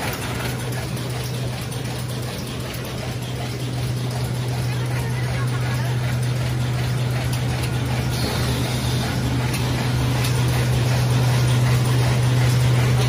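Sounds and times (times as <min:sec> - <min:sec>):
machine low hum: 0:00.0 - 0:13.0.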